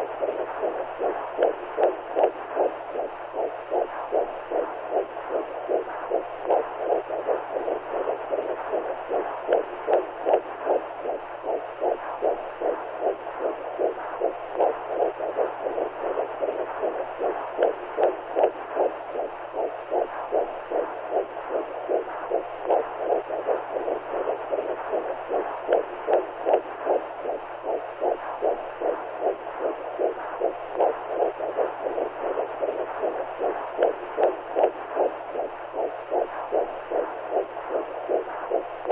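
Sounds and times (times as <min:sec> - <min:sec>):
rhythmic whooshing heartbeat pulse: 0:00.0 - 0:38.9
steady low hum: 0:00.0 - 0:38.9.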